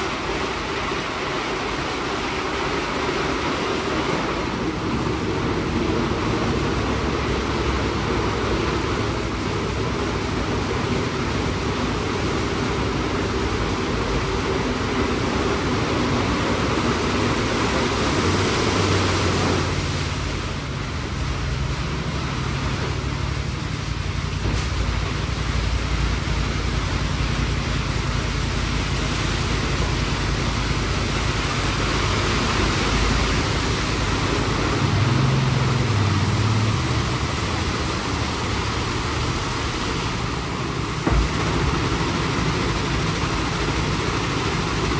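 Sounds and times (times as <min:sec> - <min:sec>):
car wash spraying hiss: 0:00.0 - 0:44.9
machine hum: 0:00.0 - 0:44.9.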